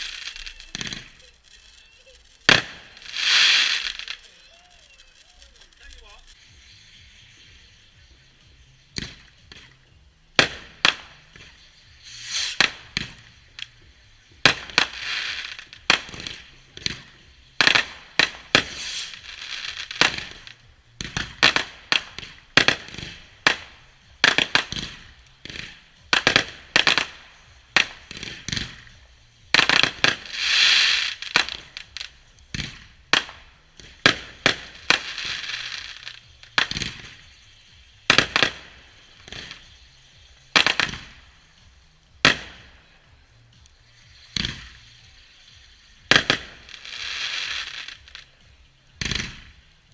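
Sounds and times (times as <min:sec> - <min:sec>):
fireworks bangs: 0:00.0 - 0:08.2, 0:08.8 - 0:48.4, 0:49.0 - 0:49.8
fireworks hissing and crackling: 0:00.0 - 0:49.9.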